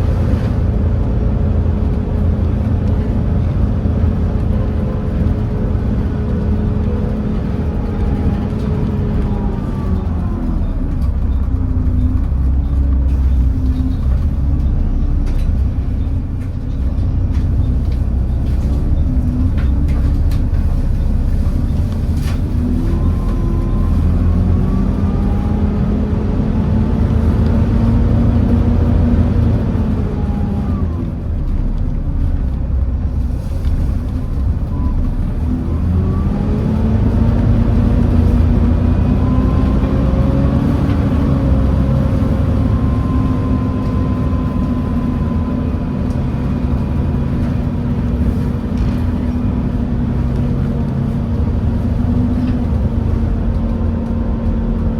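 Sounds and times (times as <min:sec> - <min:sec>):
bus diesel engine rumbling: 0:00.0 - 0:54.9.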